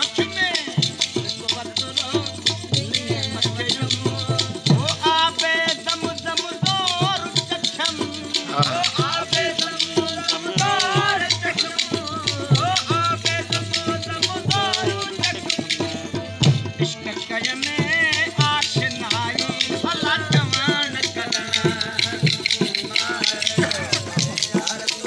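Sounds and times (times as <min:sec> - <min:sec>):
fast clicking rattle: 0:00.0 - 0:16.2, 0:17.0 - 0:25.0
harmonium: 0:00.0 - 0:25.0
man singing: 0:00.0 - 0:25.0.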